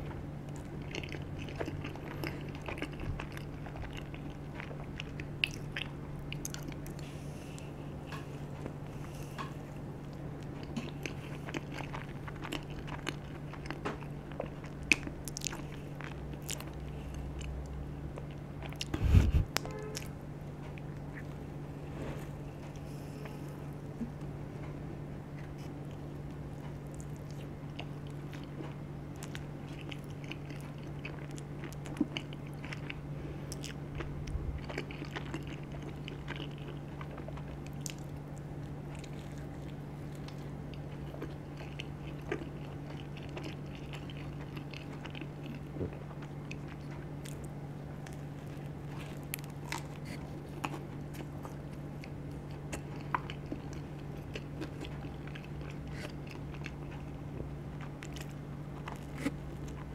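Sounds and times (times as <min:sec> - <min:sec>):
person chewing crunchy food: 0:00.0 - 0:59.9
steady low hum: 0:00.0 - 0:59.9.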